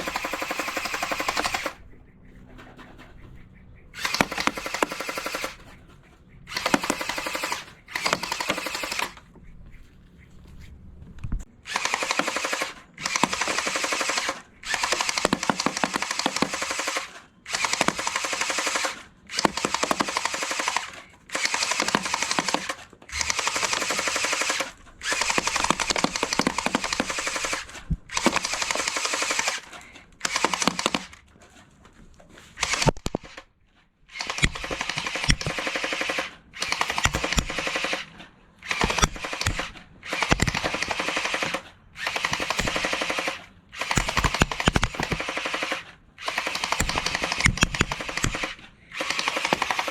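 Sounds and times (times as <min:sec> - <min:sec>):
toy blaster firing bursts: 0:00.0 - 0:01.8, 0:04.0 - 0:05.8, 0:06.5 - 0:09.2, 0:11.6 - 0:31.2, 0:32.6 - 0:33.4, 0:34.1 - 0:49.9.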